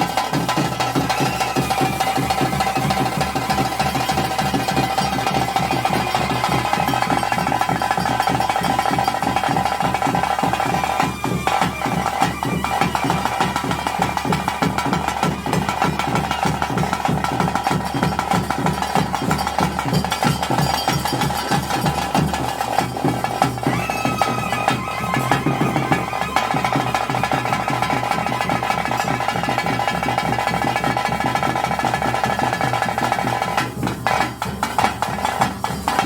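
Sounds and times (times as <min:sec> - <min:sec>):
fast dense drumming: 0:00.0 - 0:36.0.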